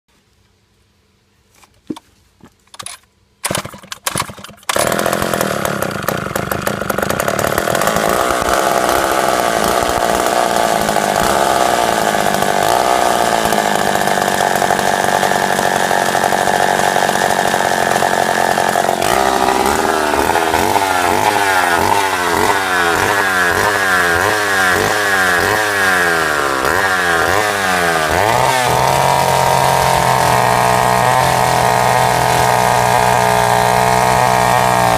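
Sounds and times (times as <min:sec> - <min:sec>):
two-stroke chainsaw engine: 0:02.7 - 0:34.9.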